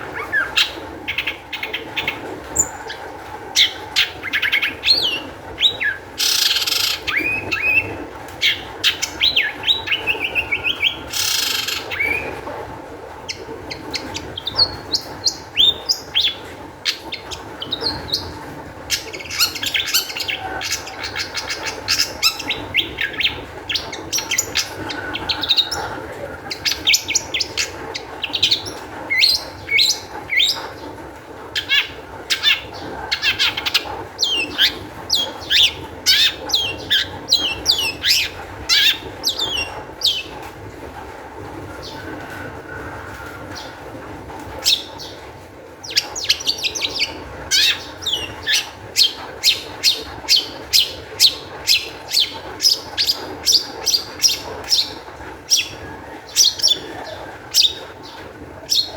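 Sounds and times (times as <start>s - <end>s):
bird singing chirps and trills: 0.0s - 12.4s, 13.2s - 30.8s, 31.6s - 40.4s, 44.6s - 45.2s, 45.8s - 58.9s
harsh rasping bird calls: 0.0s - 12.5s, 13.2s - 30.9s, 31.5s - 40.5s, 44.5s - 58.9s.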